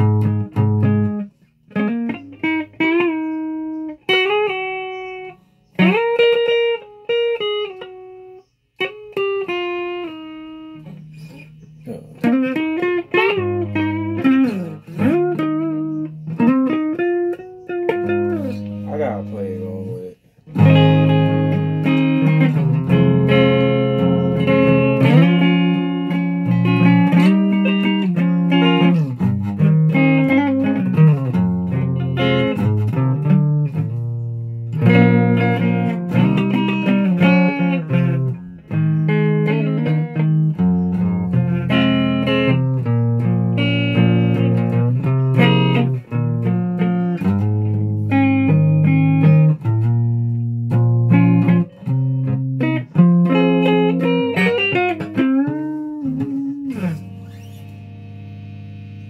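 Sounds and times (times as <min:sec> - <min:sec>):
guitar playing: 0:00.0 - 0:59.0.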